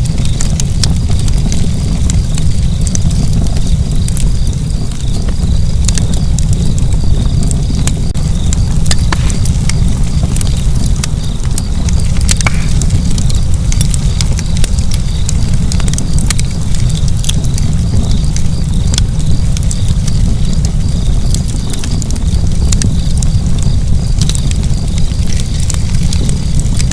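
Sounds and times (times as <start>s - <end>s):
fire crackles and pops: 0.0s - 26.9s
low rumble of flames: 0.0s - 26.9s.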